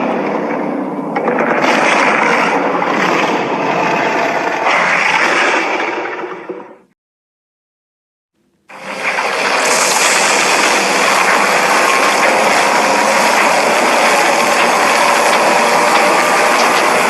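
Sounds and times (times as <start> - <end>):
loud steady machine noise: 0.0 - 6.9, 8.6 - 17.0.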